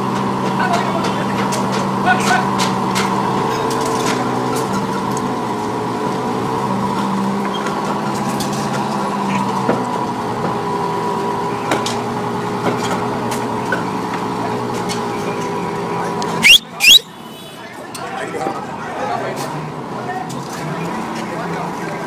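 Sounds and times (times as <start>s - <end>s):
construction machinery engines: 0.0s - 22.0s.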